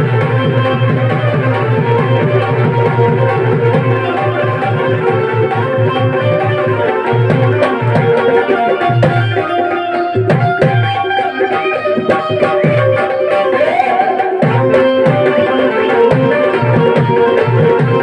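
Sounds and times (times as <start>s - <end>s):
hand drum beat: 0.0s - 18.0s
harmonium chords: 0.0s - 18.0s.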